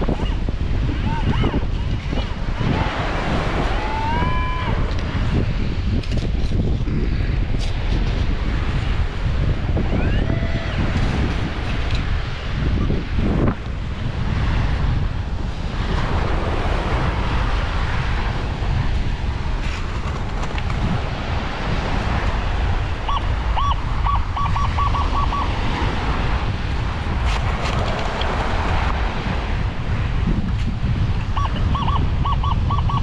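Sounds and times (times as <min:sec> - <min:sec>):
surf on beach: 0:00.0 - 0:33.0
wind buffeting microphone: 0:00.0 - 0:33.0.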